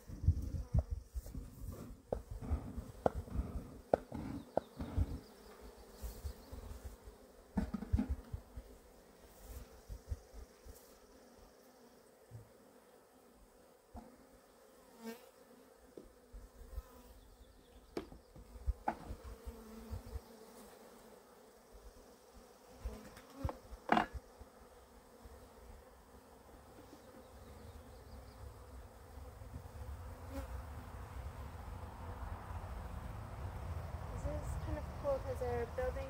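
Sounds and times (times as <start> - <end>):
honeybees buzzing: 0.0 - 36.0.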